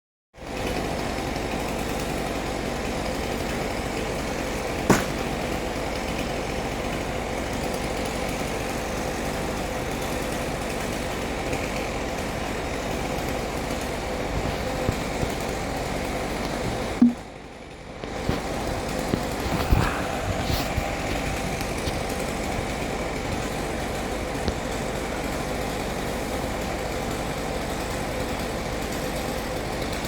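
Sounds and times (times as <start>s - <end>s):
engine idling: 0.4s - 30.0s.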